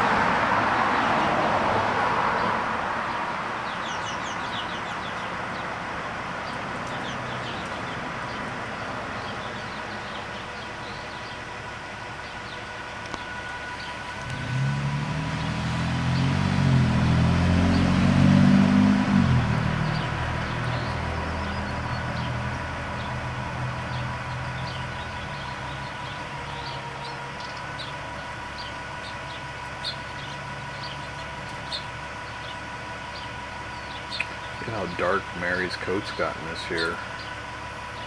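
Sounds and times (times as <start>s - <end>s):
vehicle driving past: 0.0s - 37.4s.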